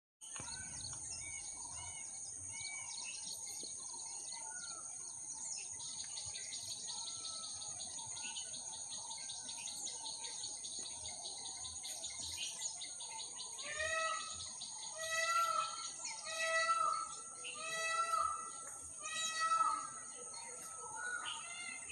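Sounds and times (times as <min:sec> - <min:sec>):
birds chirping: 0:00.2 - 0:21.9.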